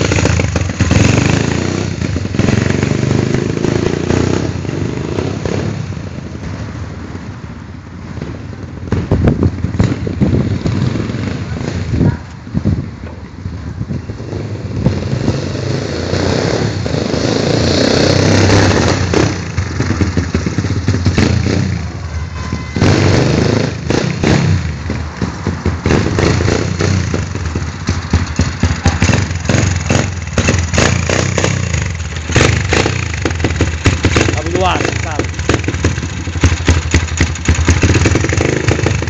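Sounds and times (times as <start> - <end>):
motorbike engine revving: 0.0 - 6.1, 8.9 - 12.2, 13.9 - 39.0.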